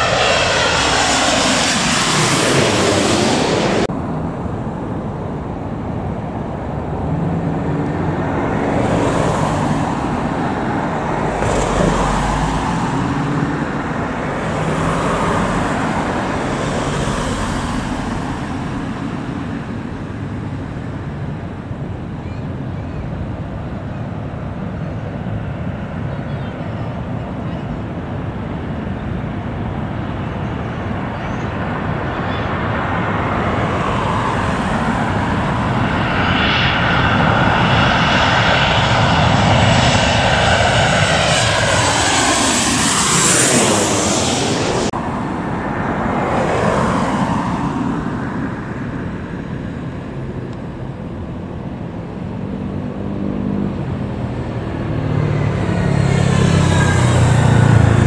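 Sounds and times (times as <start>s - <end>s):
passenger jet passing by: 0.0s - 58.0s.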